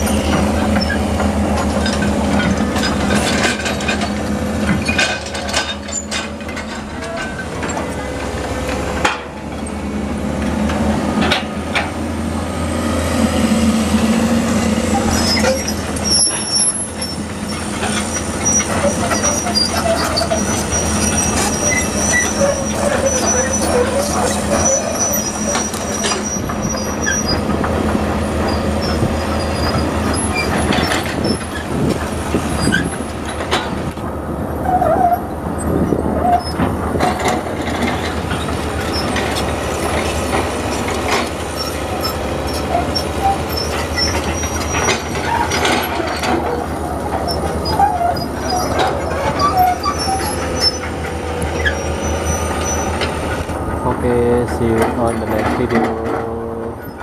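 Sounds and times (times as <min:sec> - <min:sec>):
excavator squeaks: 0:00.0 - 0:09.9, 0:12.8 - 0:57.0
excavator diesel engine: 0:00.0 - 0:57.0.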